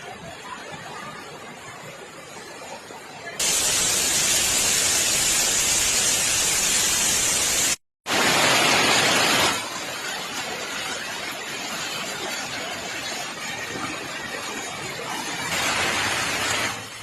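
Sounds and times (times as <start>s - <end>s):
loud rush of water: 0.0s - 17.0s.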